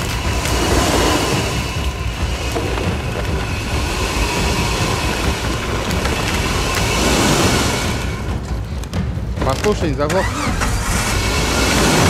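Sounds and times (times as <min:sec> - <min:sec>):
off-road engine running hard: 0:00.0 - 0:08.9, 0:10.1 - 0:12.0.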